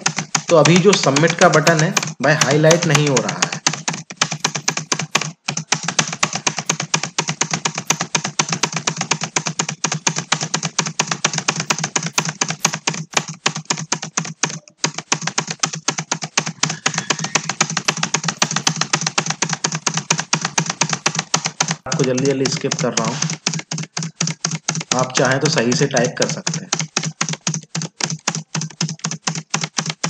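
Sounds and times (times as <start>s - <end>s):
fast keyboard typing: 0.0s - 30.0s.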